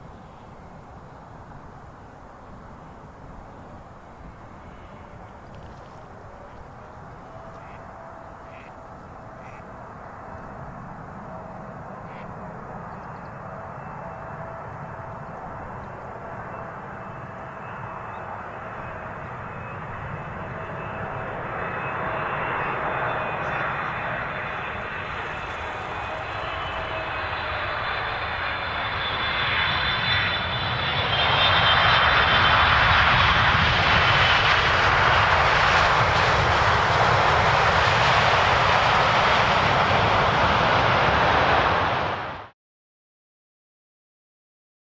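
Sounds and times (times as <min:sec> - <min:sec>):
jet airliner roar with whining fan: 0:00.0 - 0:42.6.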